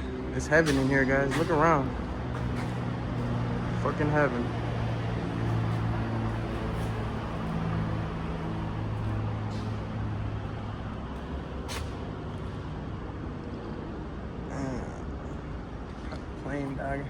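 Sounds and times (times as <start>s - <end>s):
vehicle engine idling: 0.0s - 15.8s.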